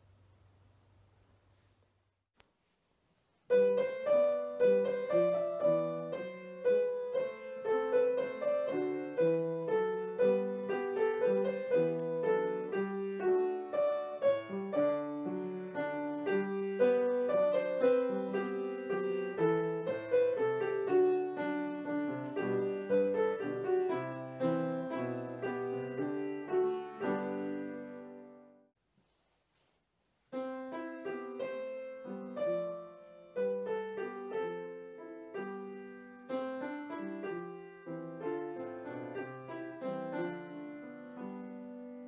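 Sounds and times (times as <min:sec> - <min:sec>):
piano music: 0:03.5 - 0:28.7, 0:30.4 - 0:42.0.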